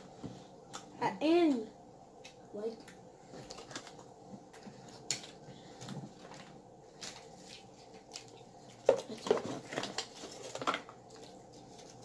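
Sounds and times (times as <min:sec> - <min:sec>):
chewing: 0:02.2 - 0:12.0.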